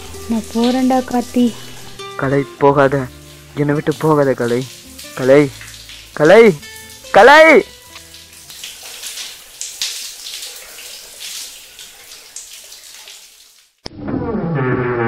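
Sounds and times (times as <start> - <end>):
shower water splashing: 0.0 - 13.8.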